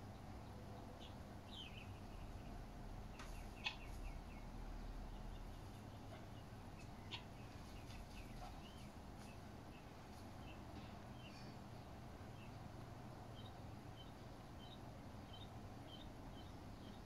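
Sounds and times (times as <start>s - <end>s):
faint high bird chirps: 0.0s - 4.5s, 5.1s - 12.6s, 13.3s - 17.0s.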